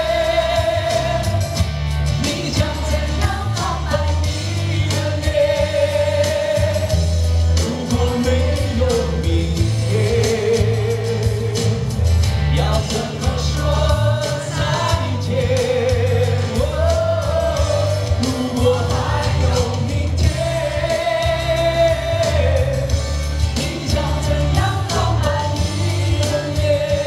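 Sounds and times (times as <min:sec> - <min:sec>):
instrumental backing with strong bass: 0:00.0 - 0:27.0
man singing pop ballad: 0:00.0 - 0:27.0.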